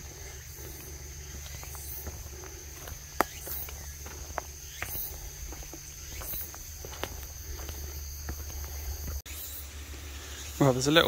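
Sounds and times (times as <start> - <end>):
footsteps on trail: 0.0 - 10.5
insects buzzing: 0.0 - 11.0.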